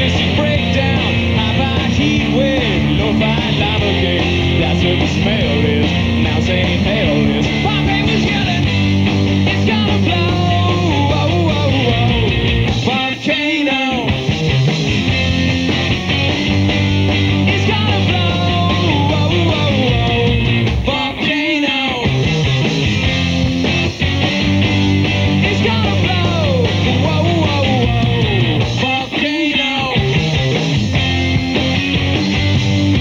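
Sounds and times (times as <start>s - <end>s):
distorted electric guitars: 0.0s - 33.0s
driving drum kit: 0.0s - 33.0s.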